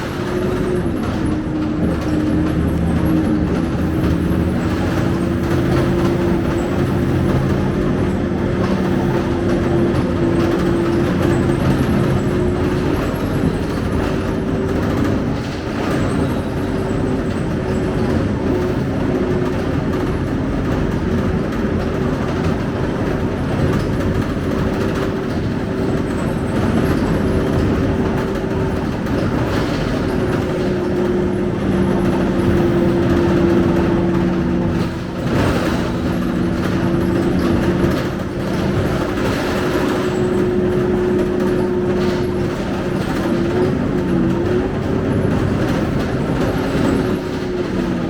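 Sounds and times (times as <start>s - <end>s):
bus diesel engine humming: 0.0s - 48.0s
road rumble: 0.0s - 48.0s.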